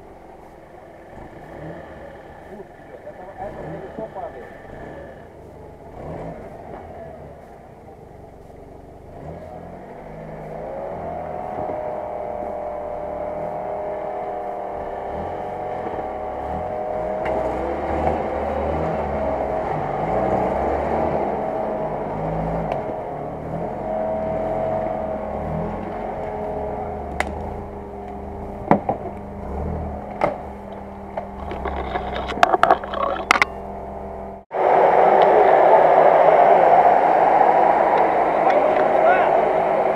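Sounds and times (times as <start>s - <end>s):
engine pulling under load: 0.0s - 39.9s.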